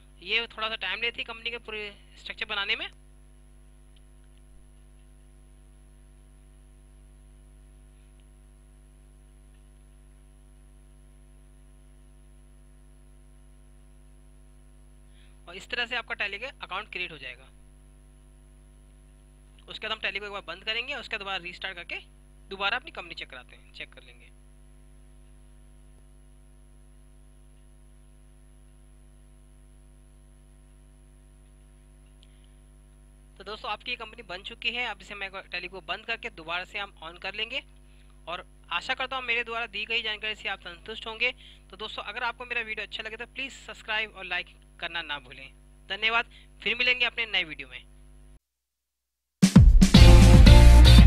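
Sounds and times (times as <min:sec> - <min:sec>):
low electrical hum: 0:00.0 - 0:48.4.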